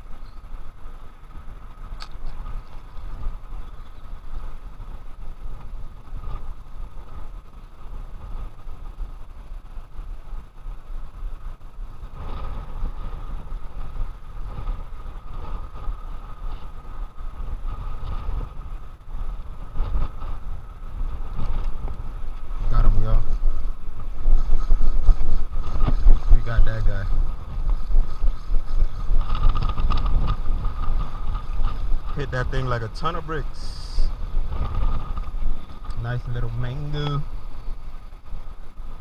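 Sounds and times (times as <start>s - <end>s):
traffic hum: 0.0s - 39.0s
wind buffeting microphone: 0.0s - 39.0s.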